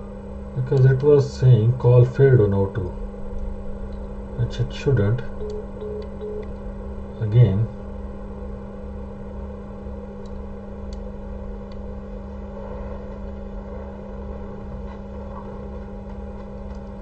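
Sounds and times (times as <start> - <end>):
electrical hum with low throbbing: 0.0 - 17.0.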